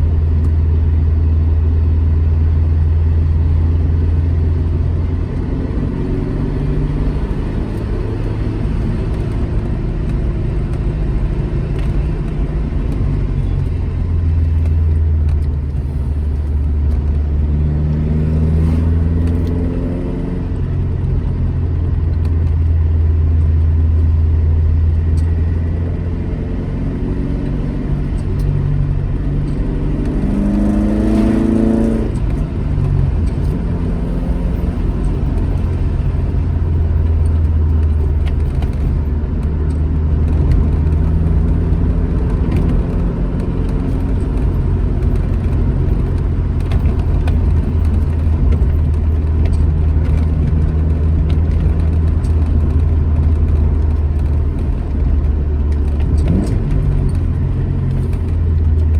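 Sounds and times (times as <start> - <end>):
car engine rumbling: 0.0 - 58.9.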